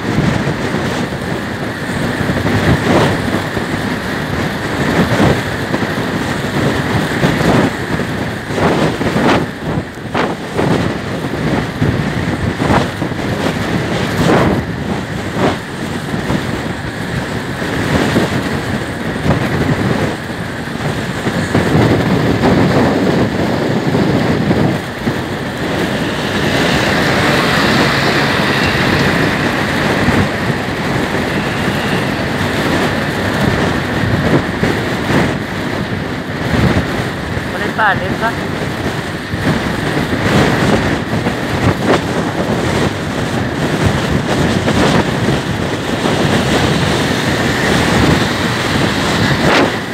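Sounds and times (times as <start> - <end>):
scooter engine and tyre noise: 0.0 - 49.9
wind buffeting microphone: 0.0 - 49.9.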